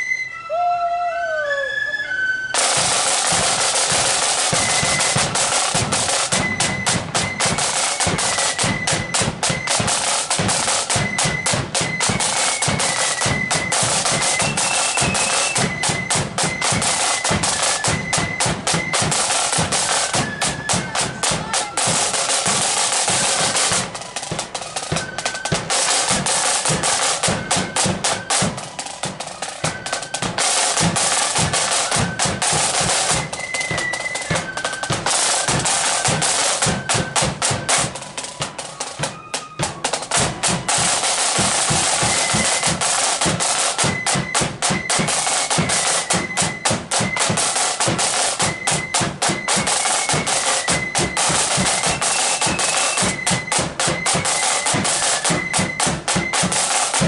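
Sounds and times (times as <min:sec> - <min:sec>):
flutes playing a melody: 0:00.0 - 0:57.0
snare drum strokes and rolls: 0:02.5 - 0:57.0.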